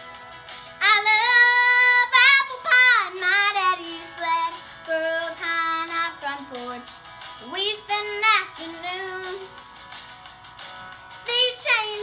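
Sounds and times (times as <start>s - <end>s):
country backing music: 0.0s - 12.0s
girl singing: 0.7s - 9.8s, 11.2s - 12.0s.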